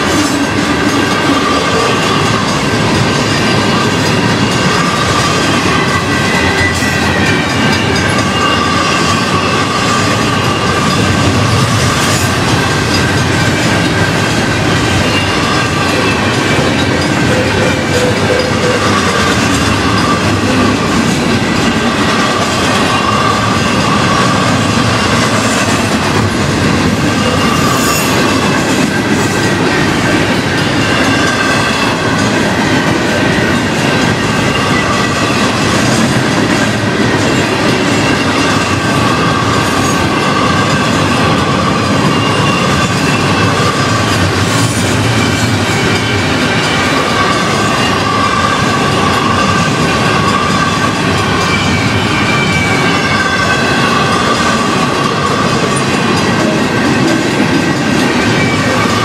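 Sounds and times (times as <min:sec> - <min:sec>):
crossing signal bells ringing: 0:00.0 - 0:59.0
train wheels rumbling on rails: 0:00.0 - 0:59.0.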